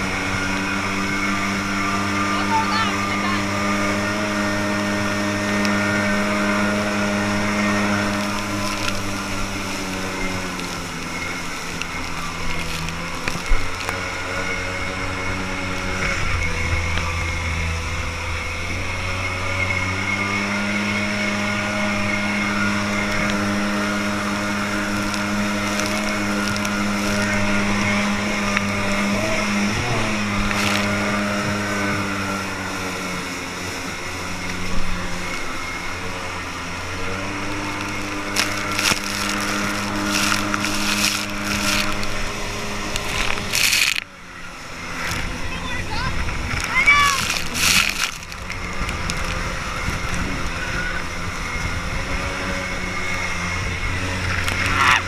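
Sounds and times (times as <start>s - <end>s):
jet boat engine revving: 0.0s - 55.0s
spray and rushing water: 0.0s - 55.0s.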